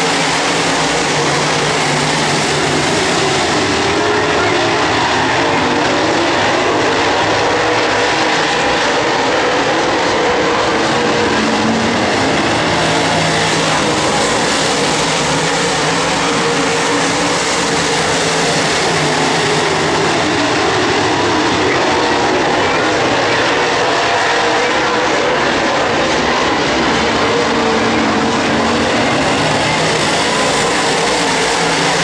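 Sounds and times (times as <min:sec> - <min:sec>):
race car engines droning: 0:00.0 - 0:32.0.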